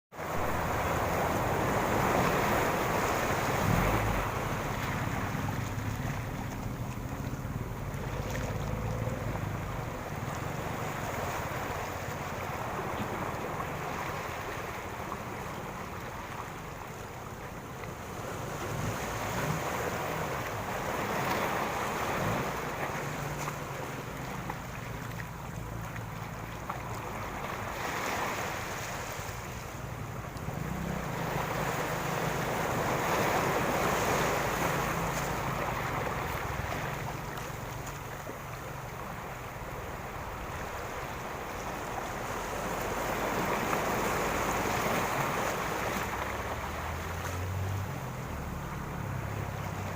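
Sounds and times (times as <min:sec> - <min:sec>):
ocean waves breaking on beach: 0:00.1 - 0:49.9
wind rumble on microphone: 0:00.1 - 0:49.9.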